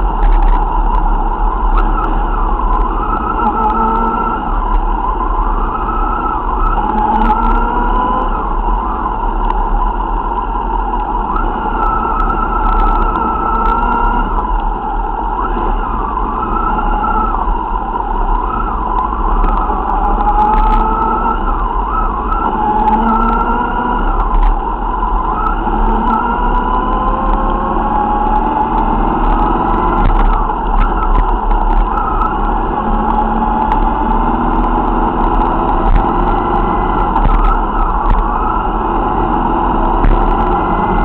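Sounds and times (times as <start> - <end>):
motorcycle engines rumbling: 0.0 - 41.0.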